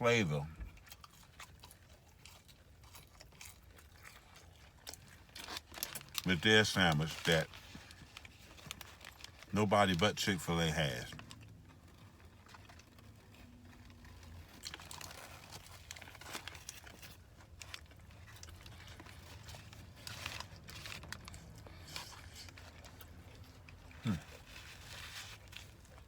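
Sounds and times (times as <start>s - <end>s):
soft crunches and crinkles: 0.4s - 26.0s
person chewing food: 0.6s - 9.5s, 11.1s - 26.0s.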